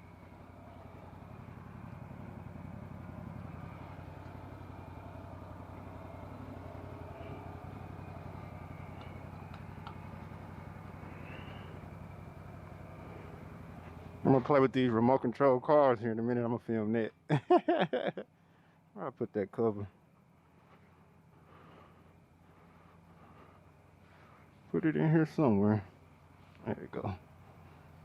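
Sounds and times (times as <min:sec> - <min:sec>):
engine idling at low revs: 0:00.0 - 0:28.0.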